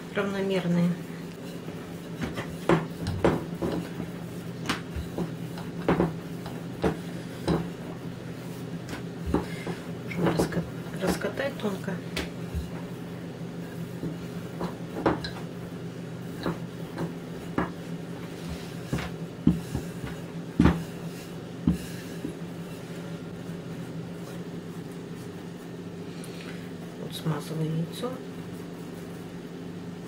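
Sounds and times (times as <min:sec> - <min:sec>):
steady low hum: 0:00.0 - 0:30.0
rolling pin rolling dough: 0:00.2 - 0:25.8.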